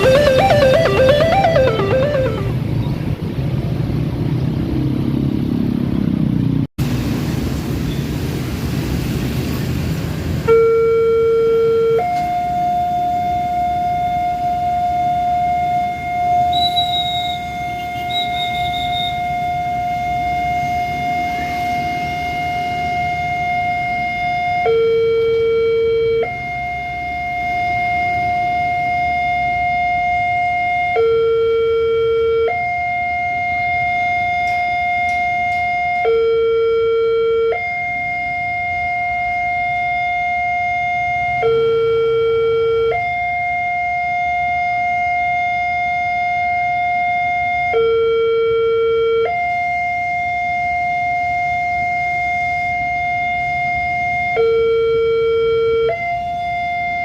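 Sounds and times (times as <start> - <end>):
two-tone crossing siren: 0.0 - 2.8, 10.4 - 57.0.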